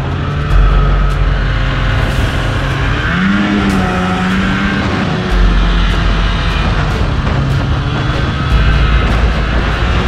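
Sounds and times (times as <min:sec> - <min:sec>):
snowmobile engine revving: 0:00.0 - 0:10.0
wind noise: 0:00.0 - 0:10.0.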